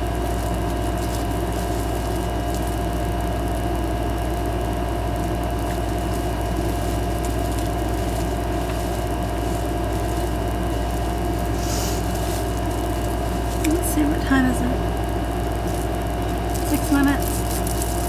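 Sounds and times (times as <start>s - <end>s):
faint whine: 0.0s - 18.0s
low mechanical hum: 0.0s - 18.0s.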